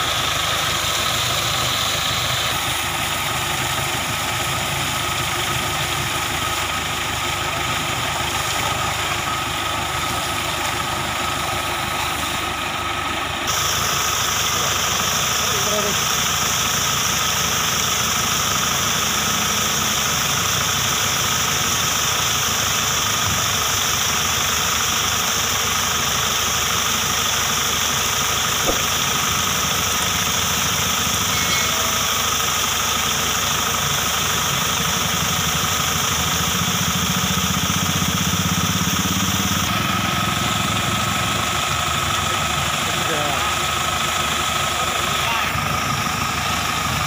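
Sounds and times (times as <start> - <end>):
engine chugging: 0.0 - 47.0
water jet hissing from hose: 0.0 - 47.0.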